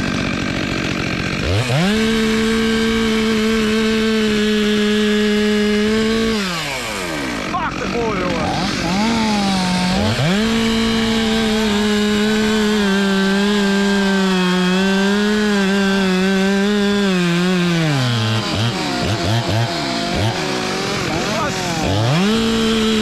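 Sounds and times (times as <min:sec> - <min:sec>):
chainsaw cutting wood: 0:00.0 - 0:23.0
chainsaw short revs: 0:00.0 - 0:23.0.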